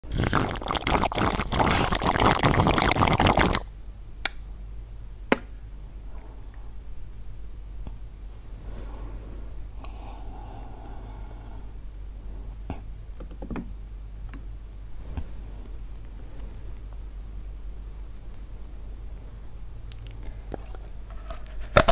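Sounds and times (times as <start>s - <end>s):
low hum with faint hiss: 0.0s - 21.9s.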